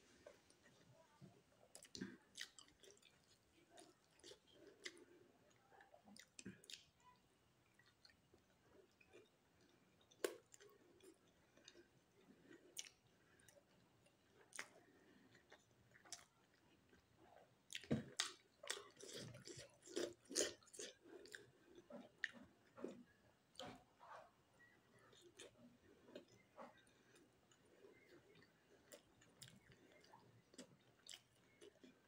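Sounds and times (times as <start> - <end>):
chewing soft food: 0.0 - 32.0.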